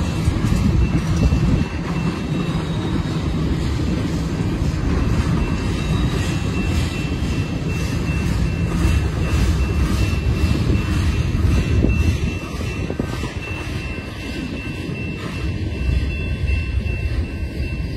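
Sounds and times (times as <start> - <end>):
train wheels rumbling on rail: 0.0 - 17.9.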